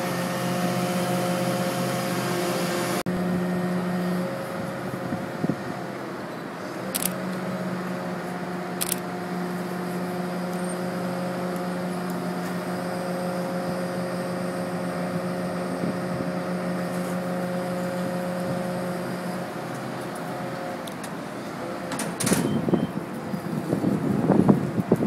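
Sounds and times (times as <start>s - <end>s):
fire engine humming: 0.0s - 25.0s.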